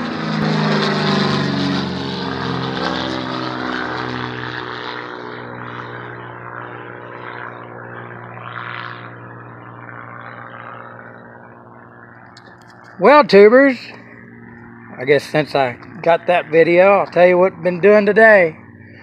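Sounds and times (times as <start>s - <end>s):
light airplane passing overhead: 0.0s - 19.0s.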